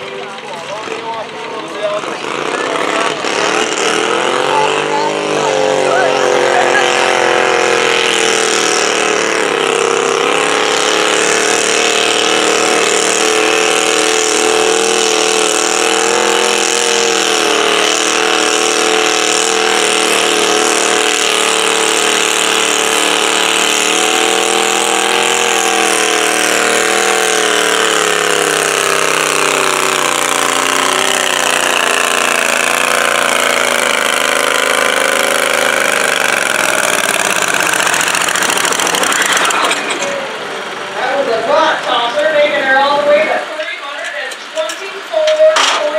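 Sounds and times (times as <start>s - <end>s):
tractor engine running under load: 0.0s - 45.9s.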